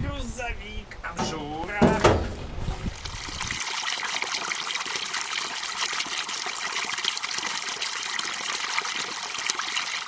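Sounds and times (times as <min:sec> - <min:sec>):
liquid trickling and splashing: 0:00.8 - 0:10.0.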